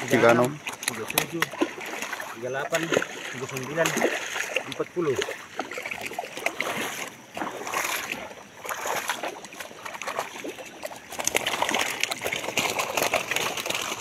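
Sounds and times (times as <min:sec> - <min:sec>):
fish flapping and slapping: 0:00.0 - 0:14.0
water splashing and sloshing: 0:00.0 - 0:14.0.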